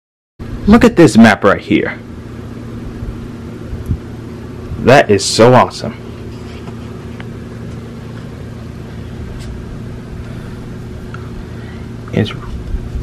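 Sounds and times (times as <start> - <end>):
low machine hum: 0.4 - 13.0.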